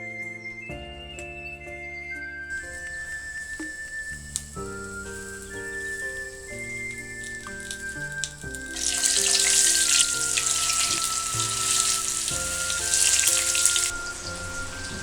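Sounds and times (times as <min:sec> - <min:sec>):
food sizzling in hot oil: 0:02.5 - 0:15.0.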